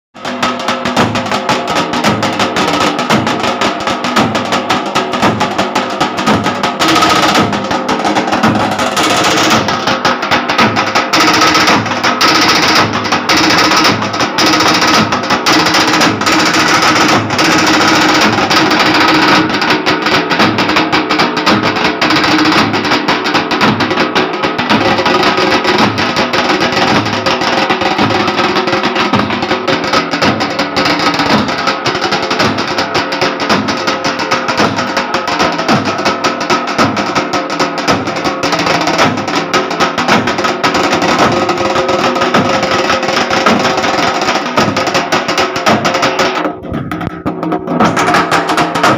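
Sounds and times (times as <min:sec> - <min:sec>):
steel drums beaten with sticks: 0:00.2 - 0:48.9.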